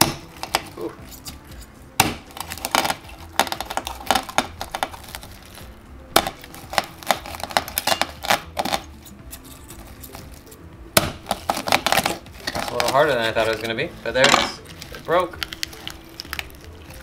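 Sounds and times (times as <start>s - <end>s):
knife chopping sea urchin shell: 0.0s - 17.0s.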